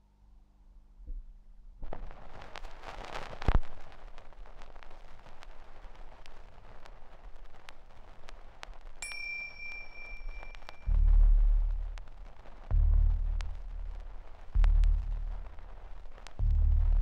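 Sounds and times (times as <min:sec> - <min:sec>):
crackling hiss with clicks: 0:01.8 - 0:17.0.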